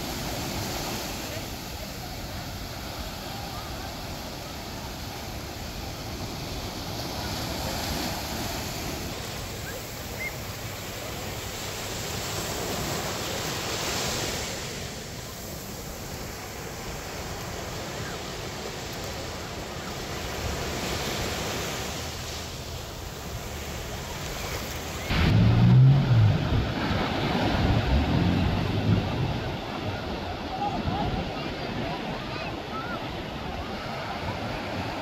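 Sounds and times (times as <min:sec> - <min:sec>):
waves breaking on sand: 0:00.0 - 0:35.0.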